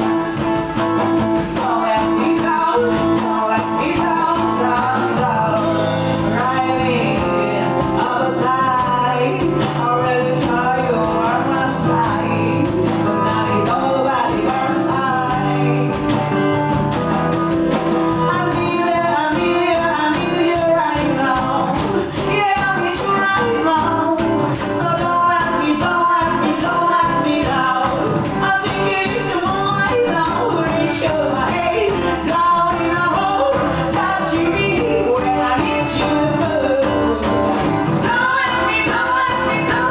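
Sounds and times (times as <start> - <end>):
band song with drums and guitars: 0.0 - 39.9.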